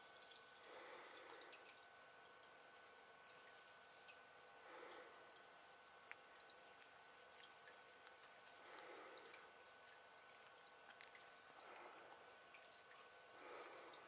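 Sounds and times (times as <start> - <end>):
electrical hum: 0.0 - 14.0
small ticks: 0.2 - 14.0.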